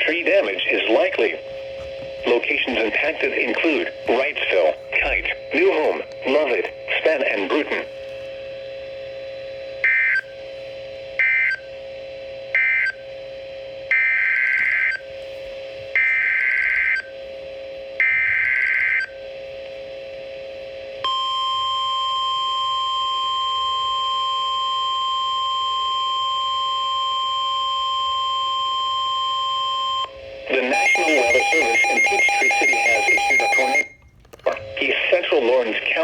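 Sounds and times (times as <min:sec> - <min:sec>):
steady warning alarm tone: 0:00.0 - 0:36.0.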